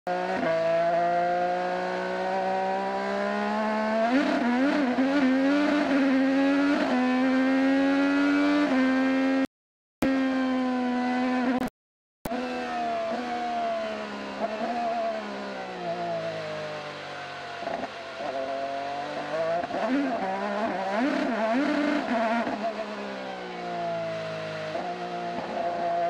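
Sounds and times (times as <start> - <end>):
race car engine at speed: 0.1 - 11.7, 12.3 - 26.0.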